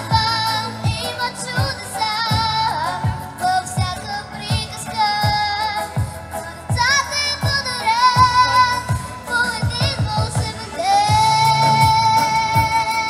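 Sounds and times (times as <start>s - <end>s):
backing track with drum beat: 0.0s - 13.0s
girl singing into a microphone: 0.0s - 13.0s.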